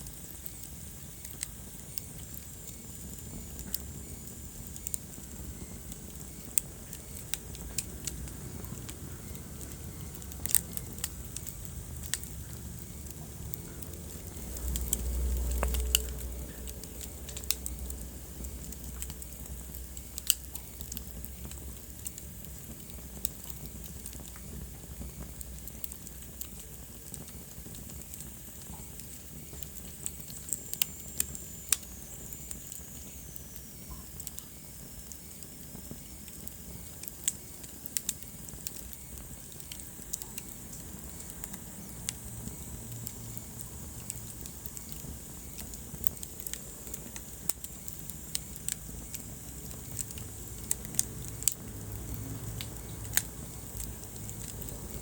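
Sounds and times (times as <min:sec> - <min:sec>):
low fire rumble: 0:00.0 - 0:55.0
wood fire crackling and popping: 0:00.0 - 0:55.0.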